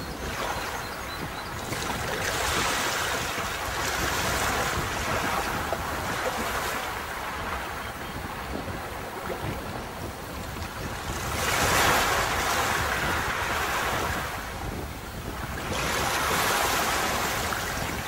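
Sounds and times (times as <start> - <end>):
sea waves washing on beach: 0.0 - 18.0.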